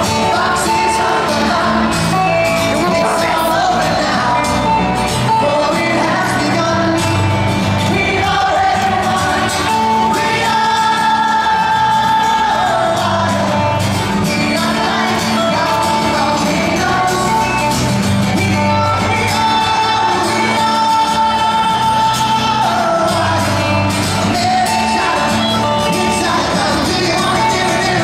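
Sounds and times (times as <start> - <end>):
acoustic guitars playing: 0.0 - 28.0.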